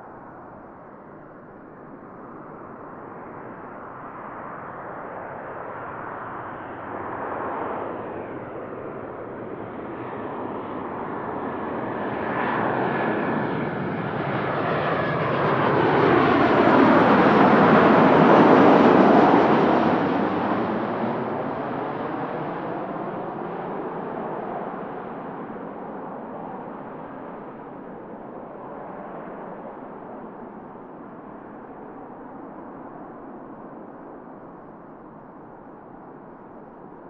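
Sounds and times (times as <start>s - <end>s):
jet airliner passing: 1.8s - 37.0s.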